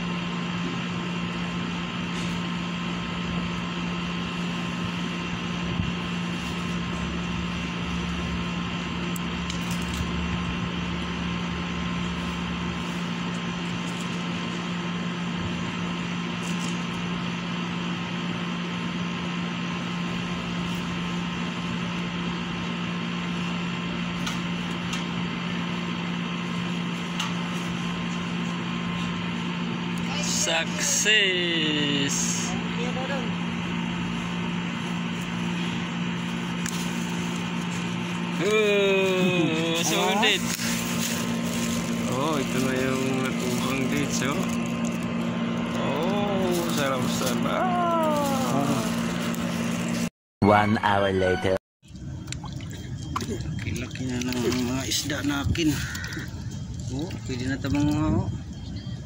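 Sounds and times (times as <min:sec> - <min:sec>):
air conditioning units humming: 0:00.0 - 0:59.0.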